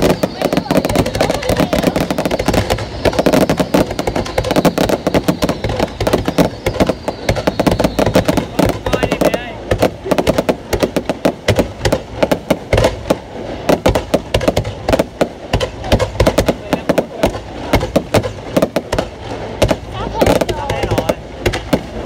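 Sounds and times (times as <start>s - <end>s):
fireworks bangs and pops: 0.0s - 22.0s.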